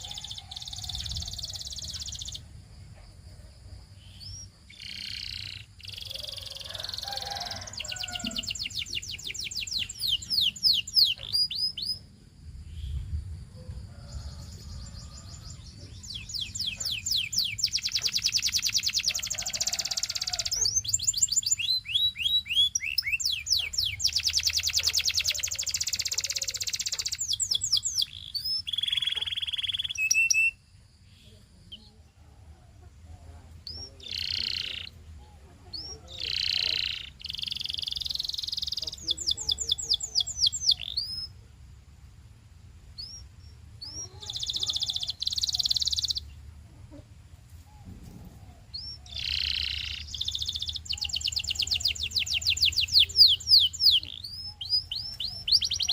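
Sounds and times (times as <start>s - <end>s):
canary singing trills: 0.0s - 3.1s, 3.8s - 13.1s, 14.0s - 32.1s, 32.7s - 41.4s, 43.0s - 47.0s, 47.8s - 55.9s.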